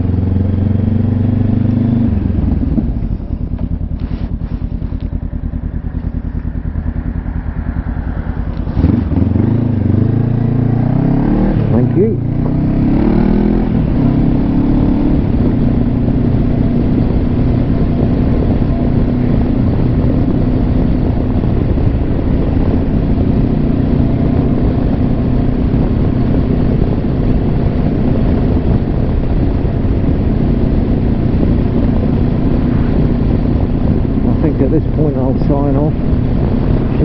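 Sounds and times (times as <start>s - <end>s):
motorcycle engine cruising: 0.0s - 37.0s
wind and road noise: 0.0s - 37.0s.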